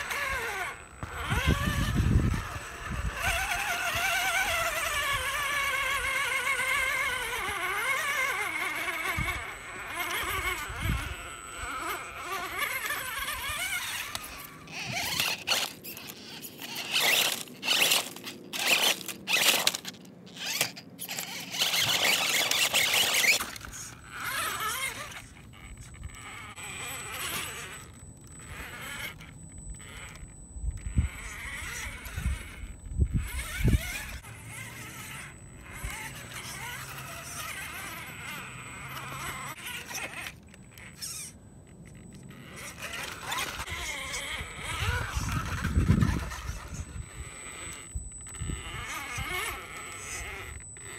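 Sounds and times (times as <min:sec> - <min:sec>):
tyres scraping on rock: 0:00.0 - 0:30.2, 0:31.0 - 0:50.9
rc car motor whining: 0:00.0 - 0:50.9.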